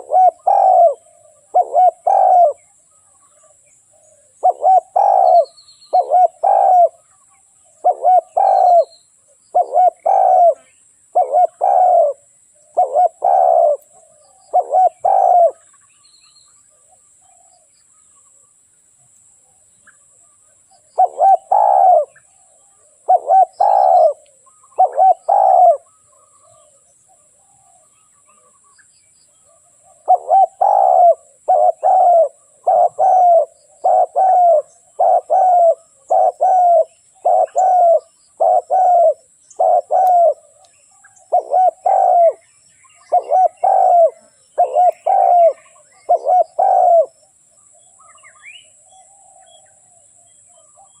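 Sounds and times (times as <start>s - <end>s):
dove cooing: 0.0s - 15.8s, 20.7s - 28.7s, 29.4s - 47.3s.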